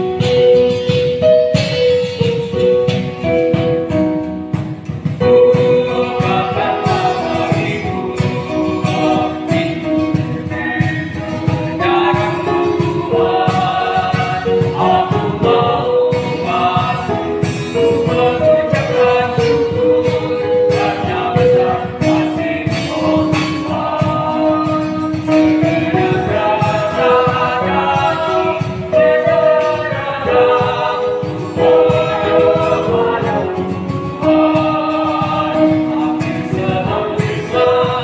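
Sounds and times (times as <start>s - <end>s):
keyboard accompaniment: 0.0s - 38.0s
steady beat: 0.0s - 38.0s
choir singing: 5.2s - 38.0s.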